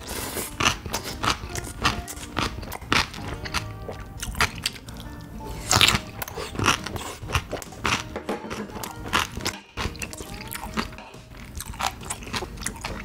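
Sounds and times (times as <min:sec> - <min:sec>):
background music: 0:00.0 - 0:13.0
crunching and chewing: 0:00.0 - 0:13.0.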